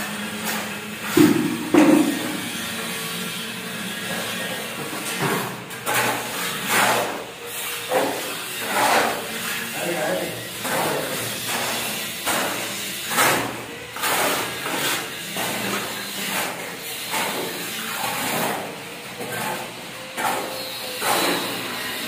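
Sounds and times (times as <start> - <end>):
trowel scraping wet concrete: 0.0 - 22.0.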